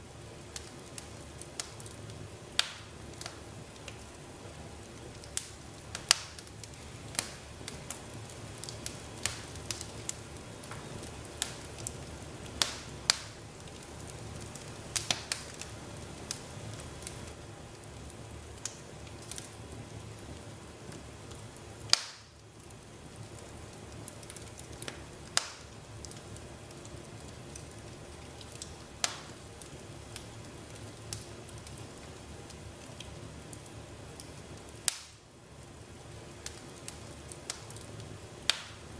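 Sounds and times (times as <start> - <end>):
fire low hiss: 0.0 - 38.9
wood fire pops and snaps: 0.4 - 38.9.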